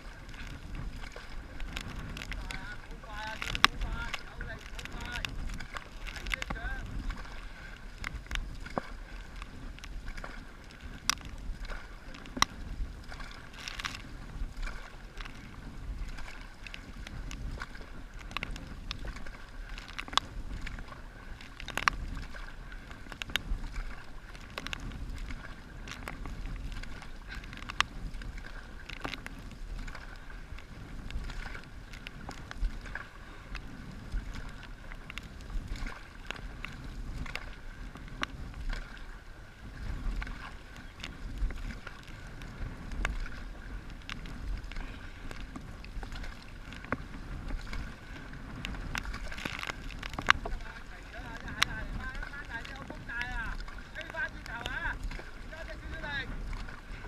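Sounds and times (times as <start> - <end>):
paddles knocking and splashing: 0.0 - 57.0
water splashing: 0.0 - 57.0.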